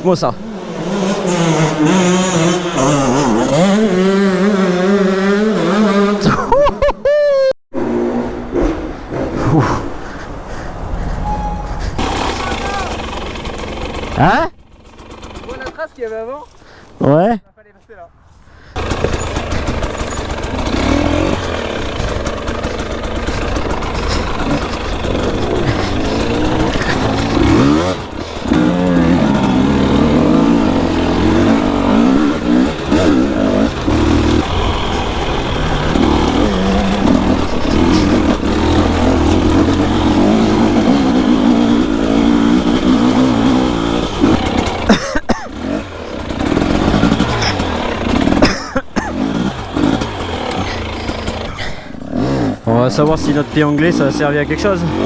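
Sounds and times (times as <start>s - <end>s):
motorcycle engine revving: 0.0s - 6.5s, 7.7s - 17.0s, 18.7s - 55.0s.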